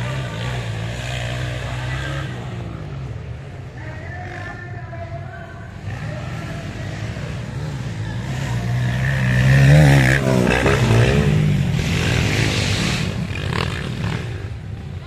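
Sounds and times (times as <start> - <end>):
dirt bike engine passing: 0.0 - 15.0.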